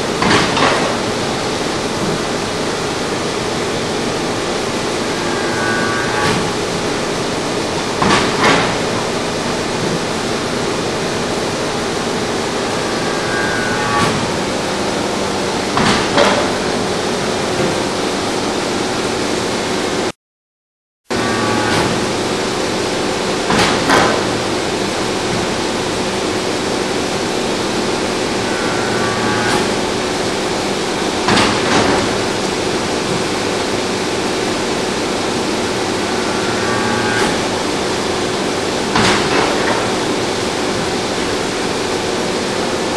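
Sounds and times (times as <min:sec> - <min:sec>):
hydraulic pump hum: 0:00.0 - 0:20.1, 0:21.1 - 0:42.9.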